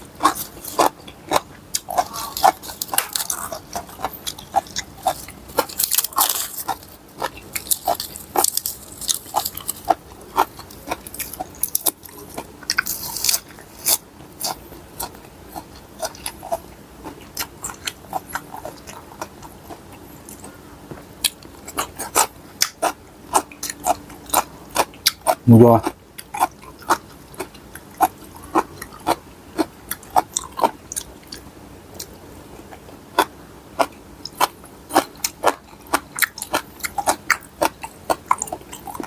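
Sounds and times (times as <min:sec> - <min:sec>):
person chewing and crunching: 0:00.0 - 0:39.0.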